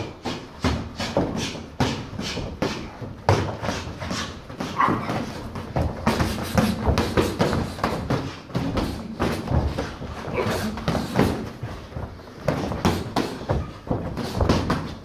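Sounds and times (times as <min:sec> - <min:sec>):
boxers breathing: 0:00.0 - 0:15.0
feet on ring canvas: 0:00.0 - 0:15.0.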